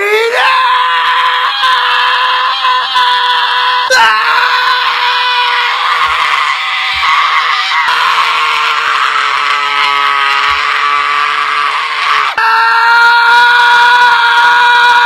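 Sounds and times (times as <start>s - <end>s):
man screaming: 0.0s - 15.0s.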